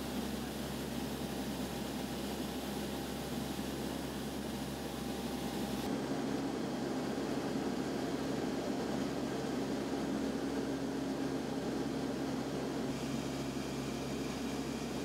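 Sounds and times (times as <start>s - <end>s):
turboprop aircraft engines droning: 0.0s - 15.0s.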